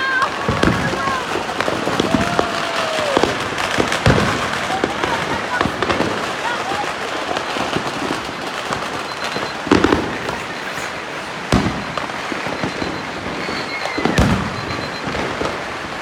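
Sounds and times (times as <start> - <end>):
firecrackers crackling: 0.0 - 16.0
loud firework bangs: 0.0 - 16.0.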